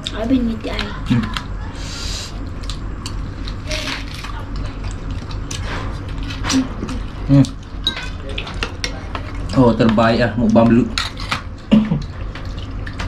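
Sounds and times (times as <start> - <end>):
steady low hum: 0.0 - 13.0
wet chewing: 2.3 - 13.0.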